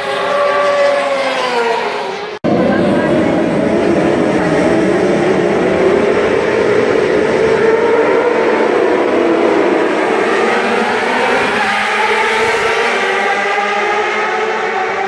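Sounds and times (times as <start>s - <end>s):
high-revving motorcycle engines: 0.0s - 15.0s.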